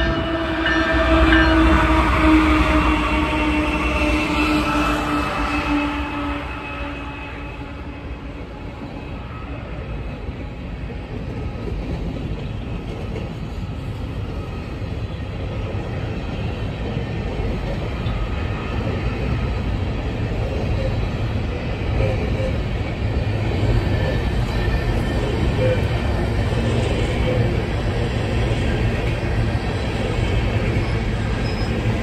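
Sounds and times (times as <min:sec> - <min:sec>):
diesel locomotive engine hum: 0:00.0 - 0:32.0
train wheels rumbling on rails: 0:00.0 - 0:32.0.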